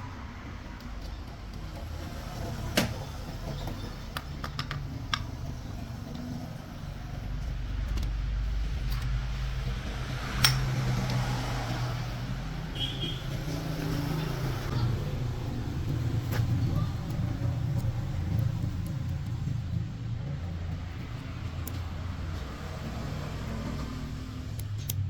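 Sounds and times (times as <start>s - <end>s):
sharp metallic clicks and knocks: 0.5s - 12.2s, 15.4s - 25.0s.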